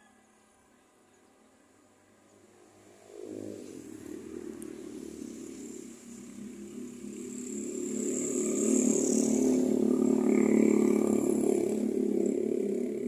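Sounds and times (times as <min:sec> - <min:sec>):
motorcycle engine approaching: 0:02.3 - 0:13.0.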